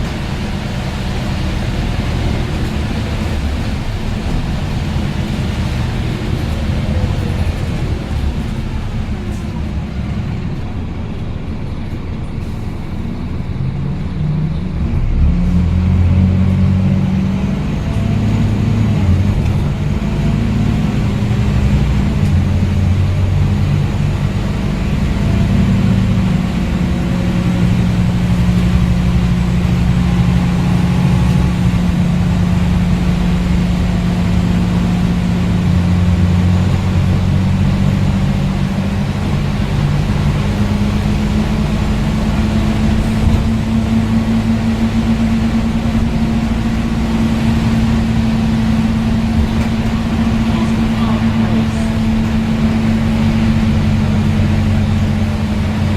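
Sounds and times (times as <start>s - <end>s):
bus diesel engine accelerating: 0.0s - 55.9s.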